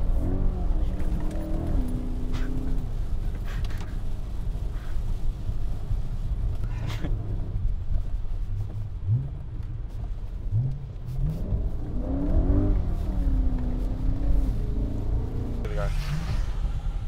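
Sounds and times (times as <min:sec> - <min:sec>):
car engine rumbling and revving: 0:00.0 - 0:17.0.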